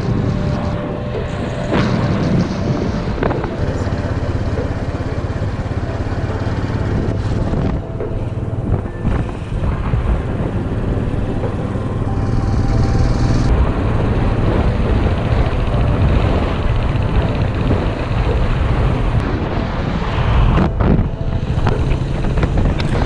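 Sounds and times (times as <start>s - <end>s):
motorcycle engine running: 0.0s - 19.2s
wind noise on microphone: 0.0s - 23.0s.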